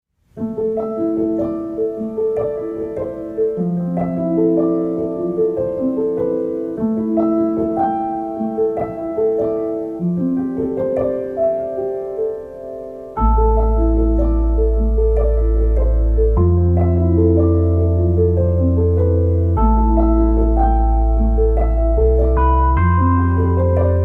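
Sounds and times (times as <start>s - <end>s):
slow piano melody: 0.2s - 24.0s.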